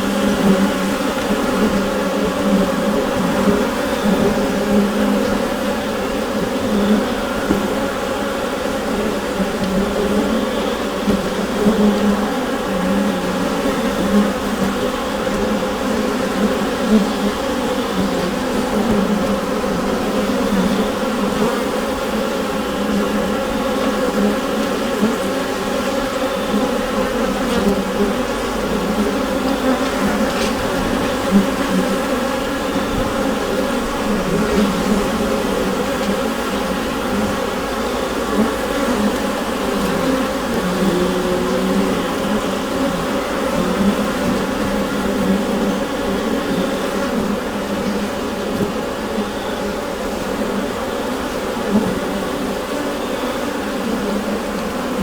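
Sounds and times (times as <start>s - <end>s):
bees humming: 0.0s - 55.0s.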